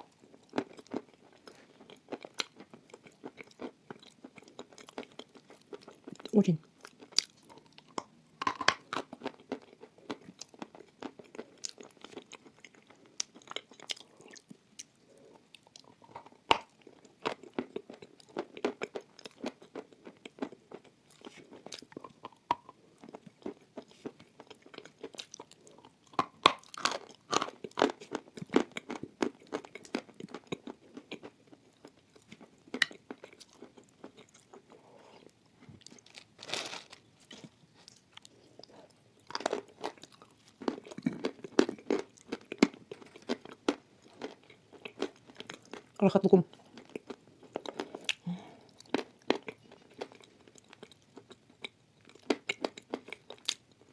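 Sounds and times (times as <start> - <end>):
crunching and chewing chalk: 0.0 - 53.9.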